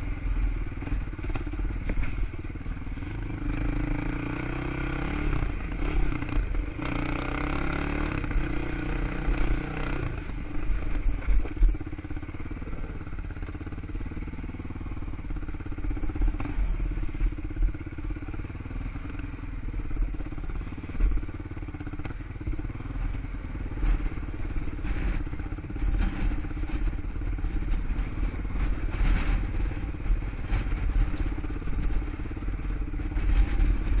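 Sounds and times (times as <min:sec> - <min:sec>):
quad engine running: 0:00.0 - 0:34.0.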